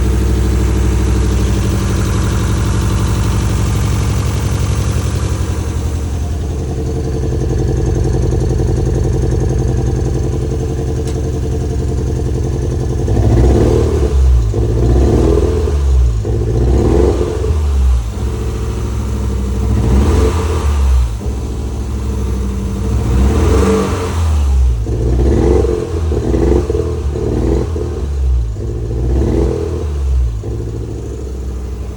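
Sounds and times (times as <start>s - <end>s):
car engine idling and revving: 0.0s - 31.9s.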